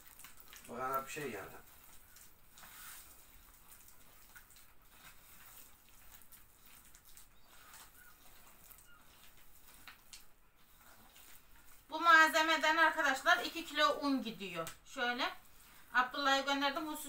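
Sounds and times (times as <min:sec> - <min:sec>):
stirring sugar and margarine: 0:00.0 - 0:17.0
soft scrapes: 0:01.1 - 0:14.0, 0:15.0 - 0:17.0.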